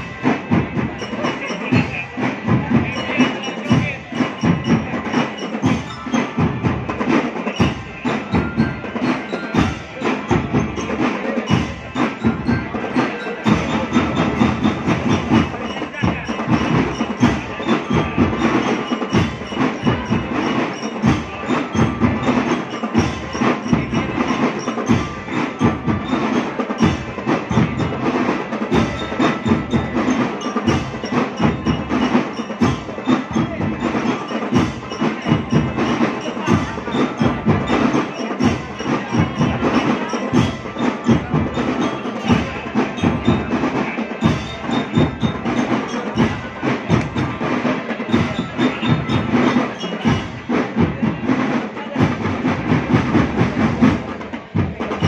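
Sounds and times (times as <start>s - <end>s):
drums playing steady beat: 0.0s - 55.0s
mallet percussion melody: 0.0s - 55.0s.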